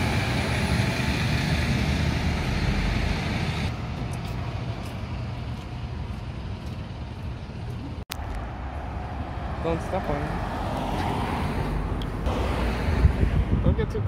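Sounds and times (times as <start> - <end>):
street traffic hum: 0.0 - 14.0.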